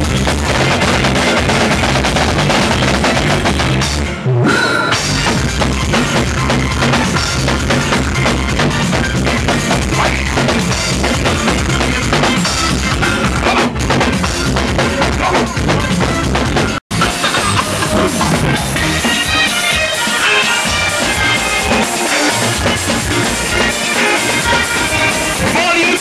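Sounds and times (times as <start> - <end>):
soca music with drums and bass: 0.0 - 26.0.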